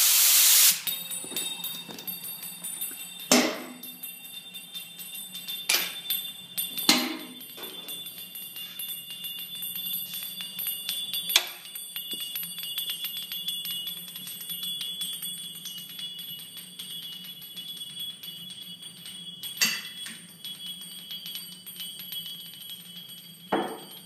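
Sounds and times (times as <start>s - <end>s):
metallic jingling: 0.8s - 24.0s.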